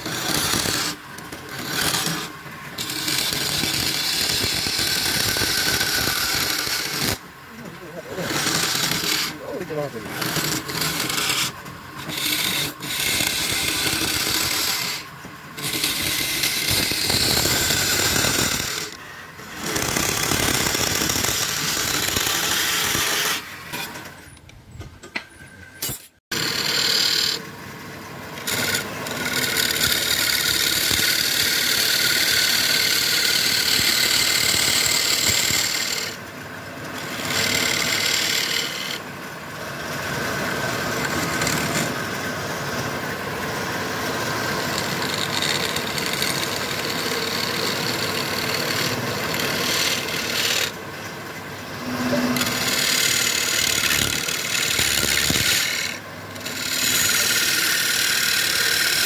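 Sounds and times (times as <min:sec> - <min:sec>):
scraper cutting wood on lathe: 0:00.0 - 0:24.0, 0:28.4 - 0:36.2, 0:36.9 - 0:39.0, 0:39.9 - 0:42.9, 0:44.0 - 0:50.8, 0:51.6 - 0:59.0.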